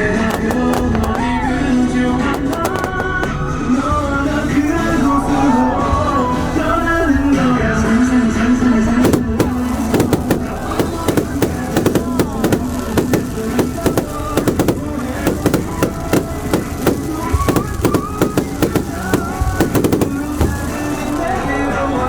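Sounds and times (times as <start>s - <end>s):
fireworks bangs and pops: 0.0s - 22.0s
music: 0.0s - 22.0s.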